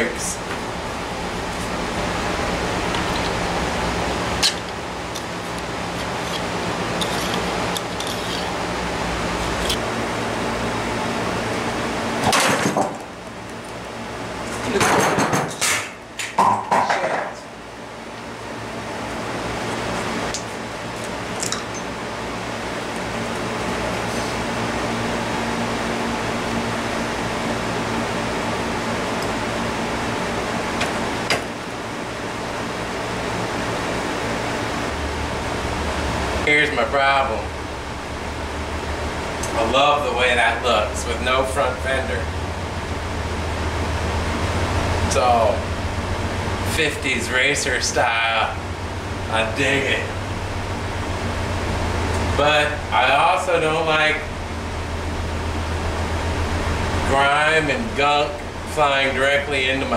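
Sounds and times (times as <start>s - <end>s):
fan rushing: 0.0s - 59.9s
steady mechanical hum: 0.0s - 59.9s.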